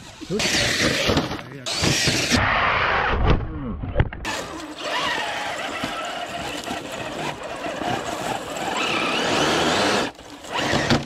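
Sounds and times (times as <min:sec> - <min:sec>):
toy car motor whining: 0:00.1 - 0:02.4, 0:04.2 - 0:11.0.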